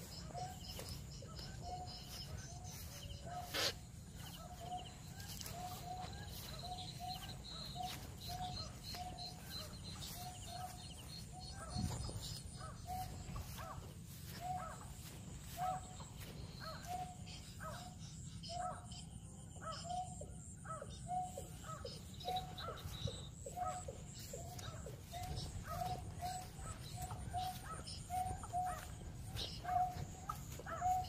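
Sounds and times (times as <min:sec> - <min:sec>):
high bird chirps: 0:00.0 - 0:17.8, 0:21.3 - 0:31.0.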